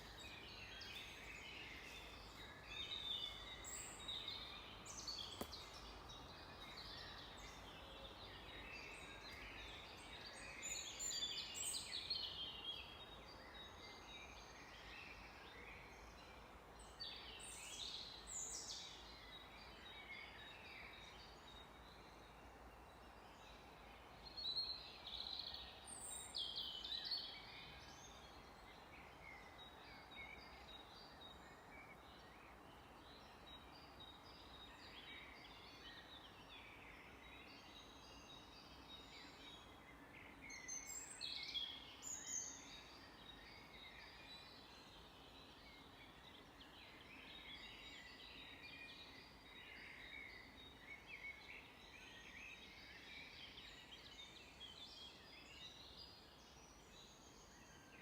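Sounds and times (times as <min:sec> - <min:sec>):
faint background hiss: 0:00.0 - 0:58.0
small birds chirping: 0:00.0 - 0:58.0.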